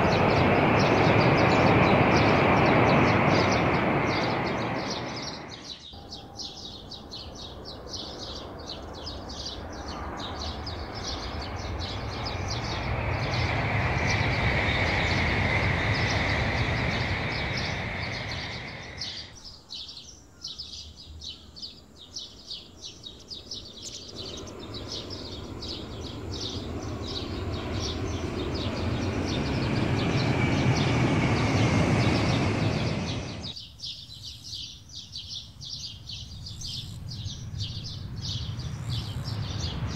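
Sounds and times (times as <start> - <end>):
train passing with rushing whine: 0.0 - 19.4, 22.6 - 33.6, 36.4 - 39.9.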